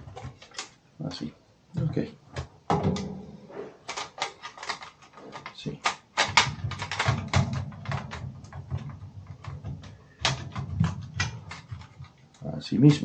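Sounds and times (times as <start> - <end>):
plastic clicks and knocks: 0.0 - 0.8, 1.8 - 12.5.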